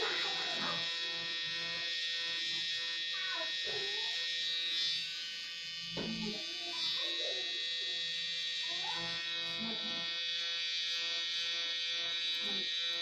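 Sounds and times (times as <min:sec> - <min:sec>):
tattoo pen buzzing: 0:00.0 - 0:13.0.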